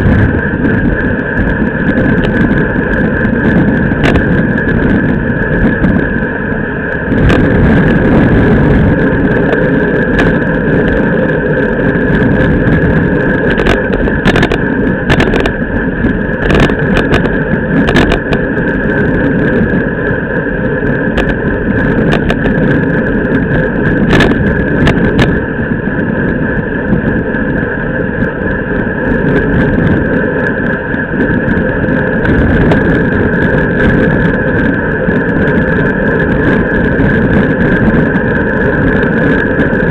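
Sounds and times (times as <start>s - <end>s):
tyre and road noise: 0.0s - 39.9s
wind buffeting microphone: 0.0s - 39.9s.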